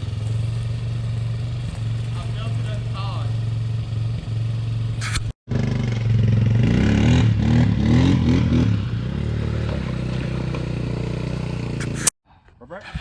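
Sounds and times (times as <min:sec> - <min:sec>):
vehicle engine revving: 0:00.0 - 0:12.1.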